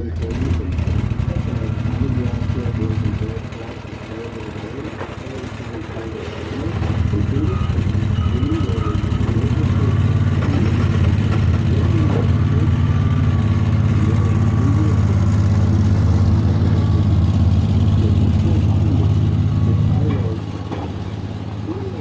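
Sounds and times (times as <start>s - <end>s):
sawmill engine droning: 0.0s - 22.0s.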